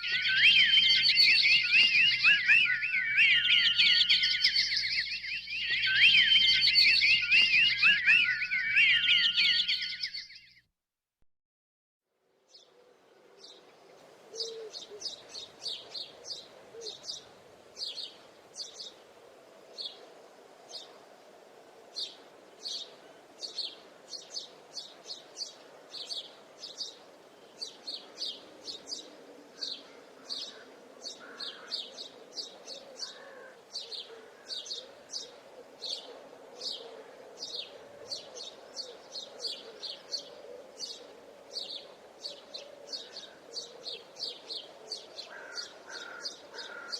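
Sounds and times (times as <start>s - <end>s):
songbirds chirping: 0.0s - 10.6s, 12.3s - 46.9s.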